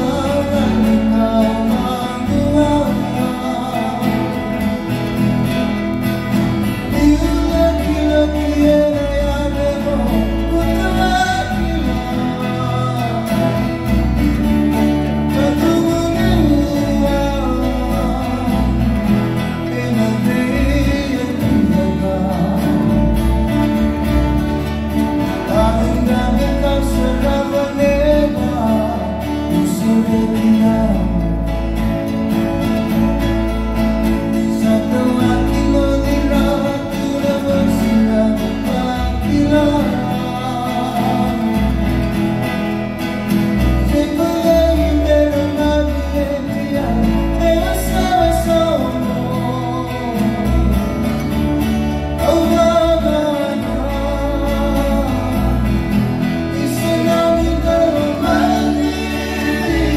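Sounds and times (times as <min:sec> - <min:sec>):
acoustic guitar: 0:00.0 - 0:59.9
men singing: 0:00.0 - 0:59.9
ukulele: 0:00.0 - 0:59.9.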